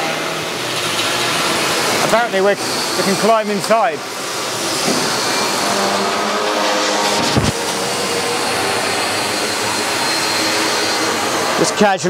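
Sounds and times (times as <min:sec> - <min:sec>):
workshop machinery rushing: 0:00.0 - 0:12.0.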